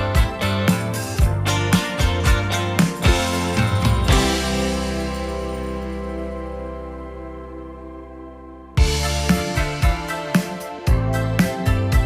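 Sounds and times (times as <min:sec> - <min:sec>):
held music chord: 0:00.0 - 0:12.0.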